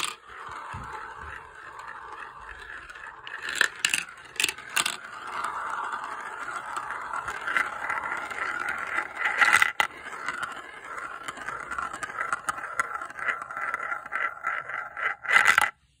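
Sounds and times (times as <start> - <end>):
marble clattering down tube: 0.0 - 15.8
marbles rolling in plastic funnel: 0.0 - 15.8.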